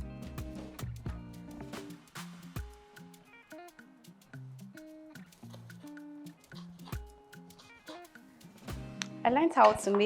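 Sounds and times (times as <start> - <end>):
plucked guitar notes: 0.0 - 9.4.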